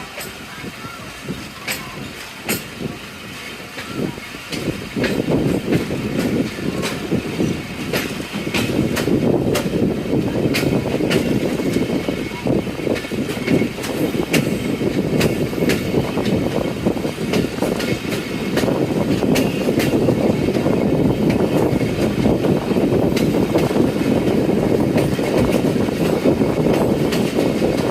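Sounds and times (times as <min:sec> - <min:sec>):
train rumbling past: 0:00.0 - 0:27.9
wheels clicking over rail joints: 0:00.0 - 0:27.9.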